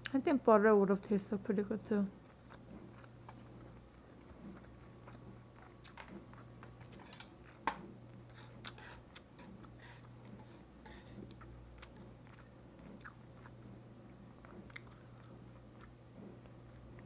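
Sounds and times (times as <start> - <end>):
chewing with crisp crunches: 2.2 - 17.0.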